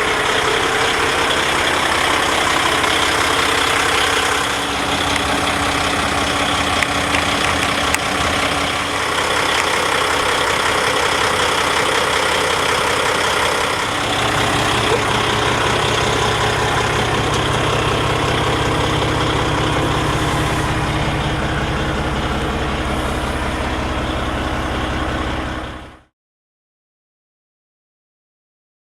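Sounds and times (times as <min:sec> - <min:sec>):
diesel truck engine idling: 0:00.0 - 0:26.1.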